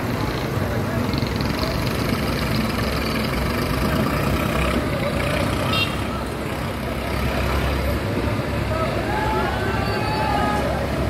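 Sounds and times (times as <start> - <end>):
murmur of crowd voices: 0.0 - 11.0
traffic rumble: 0.0 - 11.0.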